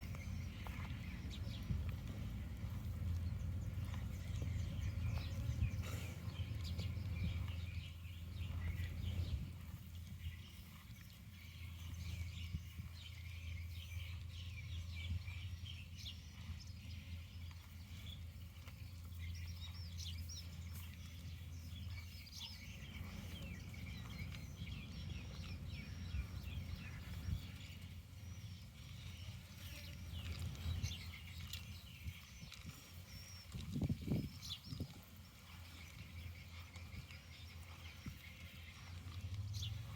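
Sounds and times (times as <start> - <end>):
small birds chirping: 0.0 - 39.9
steady low rumble: 0.0 - 39.9.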